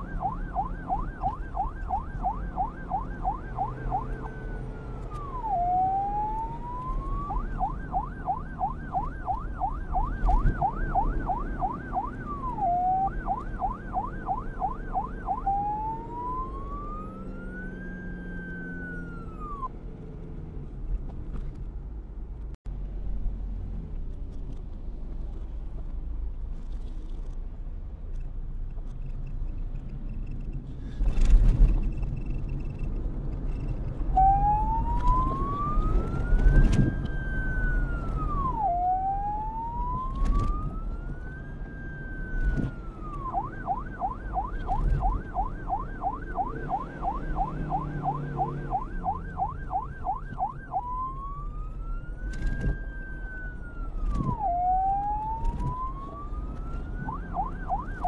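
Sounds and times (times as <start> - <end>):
reversed police siren: 0.0 - 19.7, 31.0 - 58.0.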